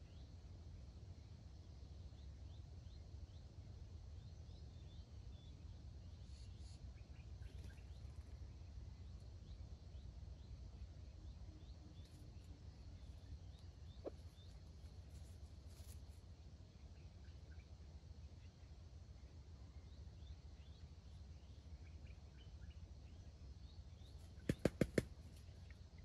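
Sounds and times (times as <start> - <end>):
low steady rumble: 0.0 - 24.4.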